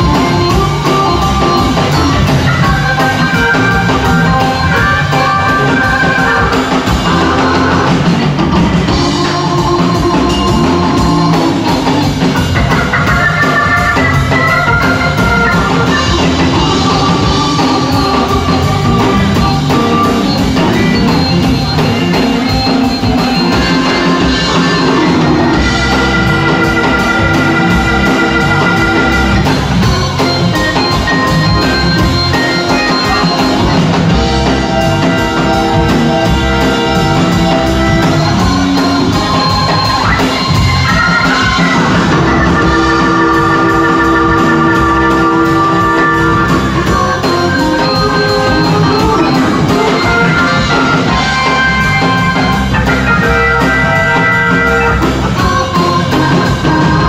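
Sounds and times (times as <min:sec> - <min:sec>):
drum kit: 0:00.0 - 0:57.0
organ sustained chords: 0:00.0 - 0:57.0.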